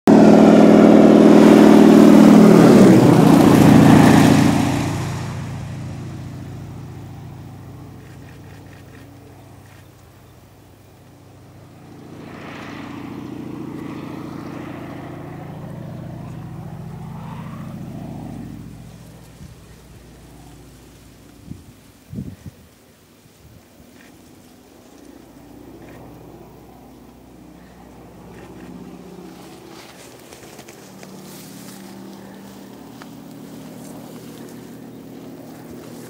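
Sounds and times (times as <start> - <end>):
crop duster plane passing low: 0.1 - 36.0.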